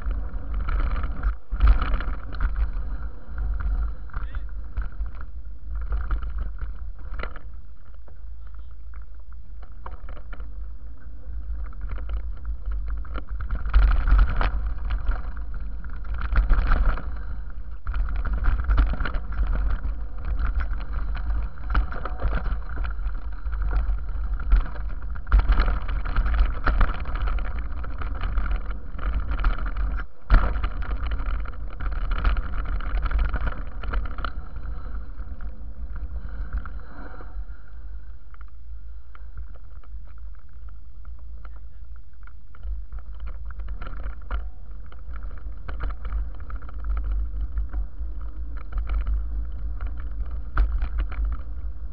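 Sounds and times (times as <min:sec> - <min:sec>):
bike rattling over rough dirt: 0:00.0 - 0:51.9
wind rumble on microphone: 0:00.0 - 0:51.9.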